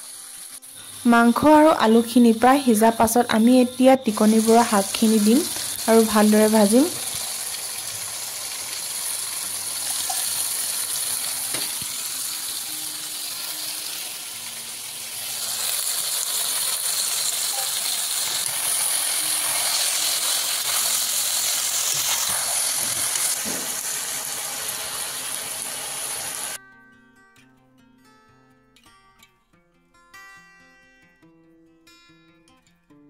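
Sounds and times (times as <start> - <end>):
food sizzling in hot oil: 0.0 - 26.6.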